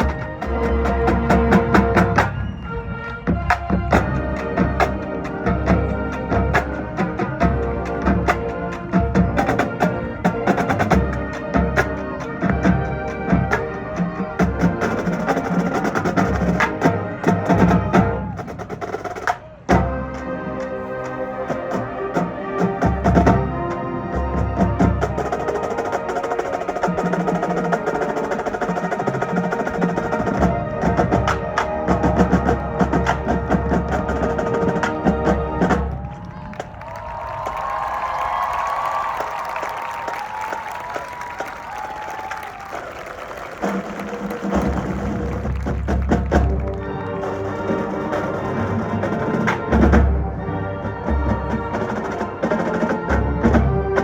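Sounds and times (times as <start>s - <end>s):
rapid drum line: 0.0s - 2.6s, 3.2s - 20.3s, 21.4s - 50.2s, 51.0s - 54.0s
marching band playing: 0.0s - 54.0s.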